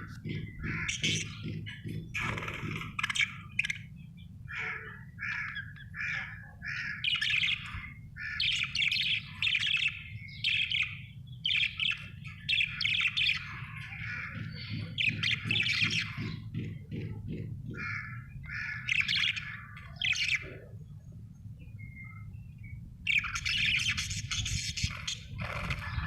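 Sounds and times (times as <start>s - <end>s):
budgerigar chirping and chattering: 0.2s - 20.6s, 23.1s - 26.0s.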